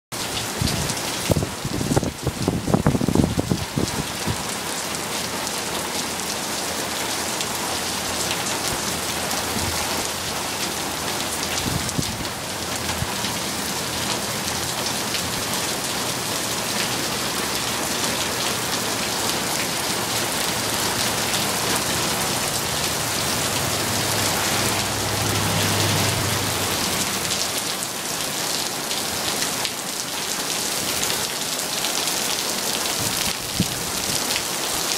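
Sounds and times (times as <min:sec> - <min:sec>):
rain pattering on pavement and cars: 0:00.2 - 0:34.9.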